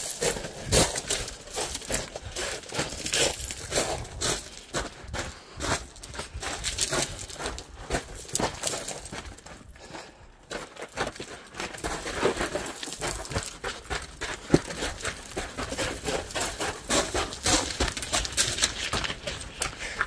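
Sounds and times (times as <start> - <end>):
footsteps crunching on gravel: 0.0 - 20.0.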